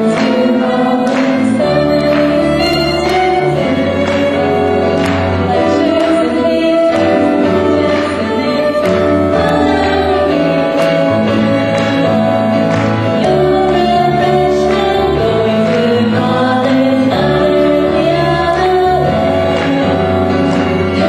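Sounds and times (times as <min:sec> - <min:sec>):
christian song with singing: 0:00.0 - 0:21.0.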